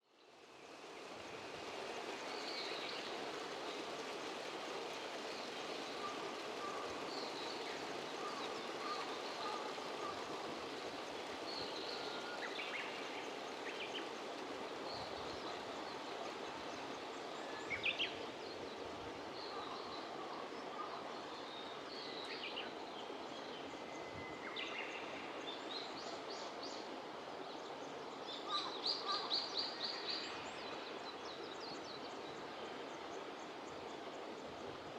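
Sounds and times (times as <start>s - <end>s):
outdoor background hiss: 0.0s - 34.9s.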